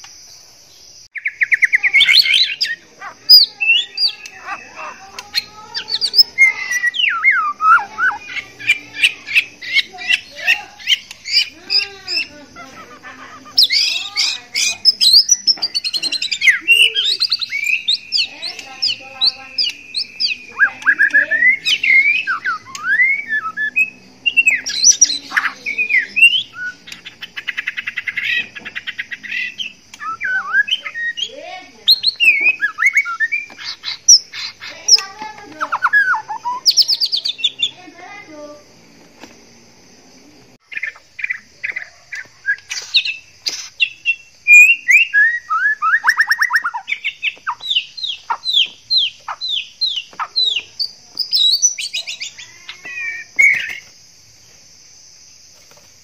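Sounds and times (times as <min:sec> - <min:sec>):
bird singing whistled notes: 0:01.1 - 0:12.4, 0:13.5 - 0:37.8, 0:40.7 - 0:53.9.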